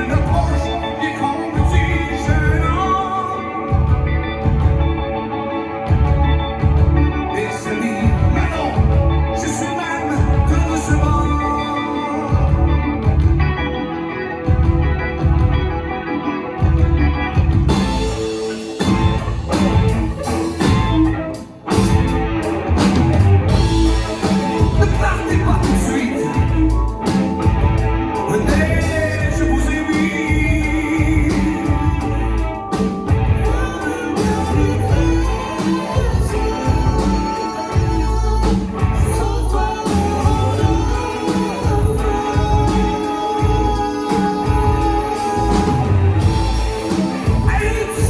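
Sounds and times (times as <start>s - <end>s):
rock band with singing: 0.0s - 48.0s.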